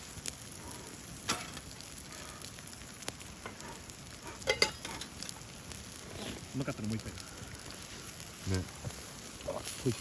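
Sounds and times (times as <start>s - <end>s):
meat sizzling on griddle: 0.0s - 10.0s.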